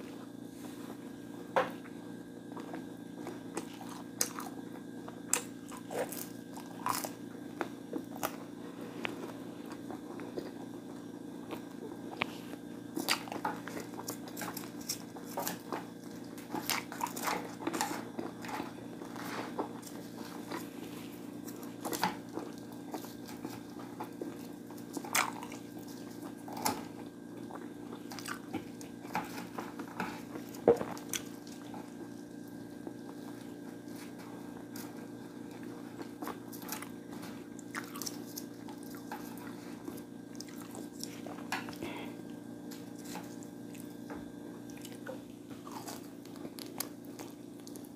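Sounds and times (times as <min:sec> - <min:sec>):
steady low hum: 0:00.0 - 0:47.9
biting crunching and wet chewing: 0:02.4 - 0:10.7, 0:11.5 - 0:47.9.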